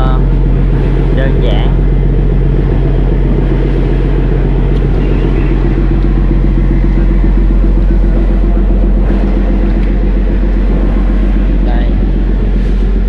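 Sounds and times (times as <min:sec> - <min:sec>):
boat diesel engine drone: 0:00.0 - 0:13.0.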